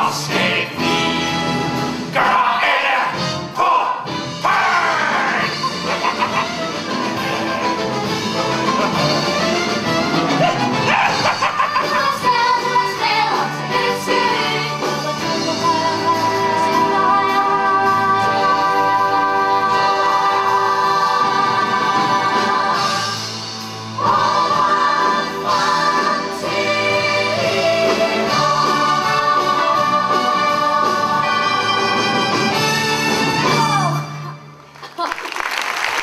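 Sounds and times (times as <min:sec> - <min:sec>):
orchestral backing: 0:00.0 - 0:34.6.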